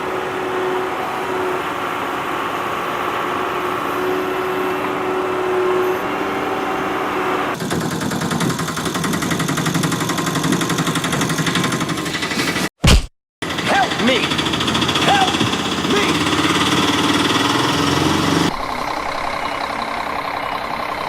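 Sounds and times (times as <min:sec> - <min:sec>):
engine running: 0:00.0 - 0:12.6, 0:13.4 - 0:21.0.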